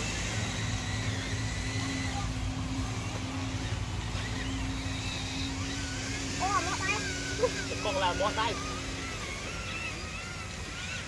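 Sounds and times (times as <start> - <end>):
faint high whine: 0.0 - 11.0
motor hum: 0.0 - 11.0.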